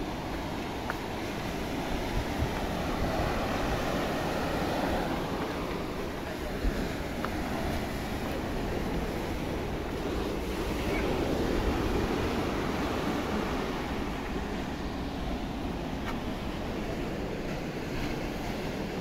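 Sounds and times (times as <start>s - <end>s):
sea surf rushing: 0.0s - 19.0s
wind: 0.0s - 19.0s.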